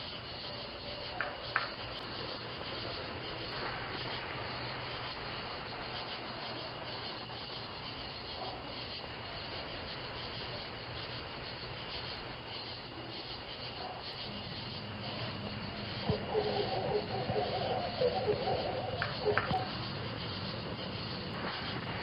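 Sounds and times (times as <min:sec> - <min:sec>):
rushing outdoor background noise: 0:00.0 - 0:22.0.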